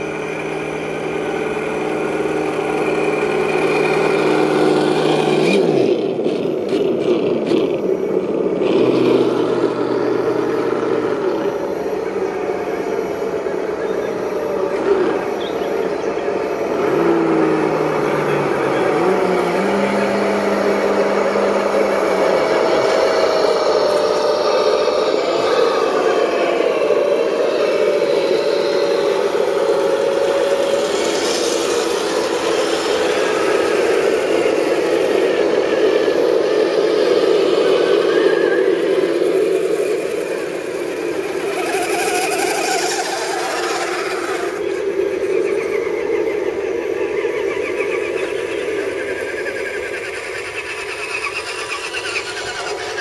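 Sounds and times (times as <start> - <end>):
rc truck motors whining: 0.0 - 53.0.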